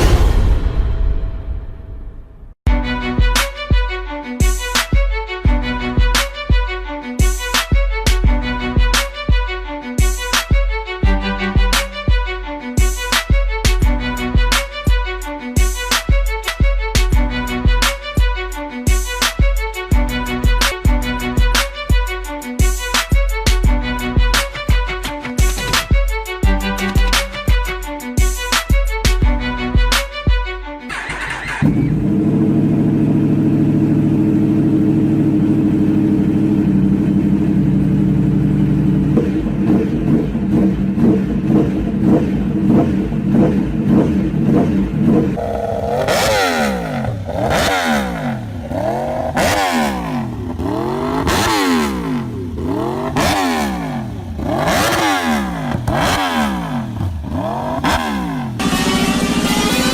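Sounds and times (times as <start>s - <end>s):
motorcycle engine idling and revving: 2.7s - 30.1s, 30.9s - 59.9s.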